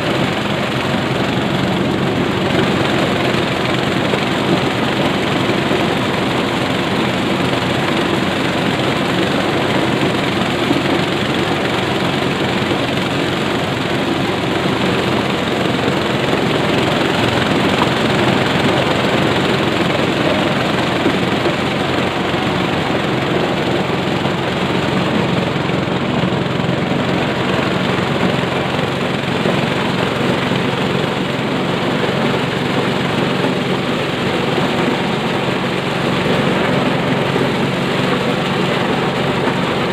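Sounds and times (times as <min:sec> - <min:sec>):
corn sheller running: 0:00.0 - 0:39.9.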